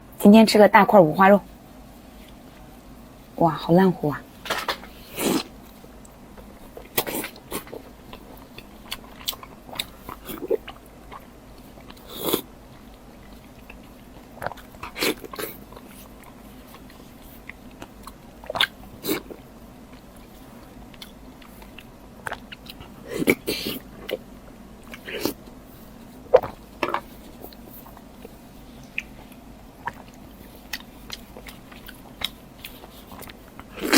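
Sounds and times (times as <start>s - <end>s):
person chewing meat: 4.4s - 33.9s.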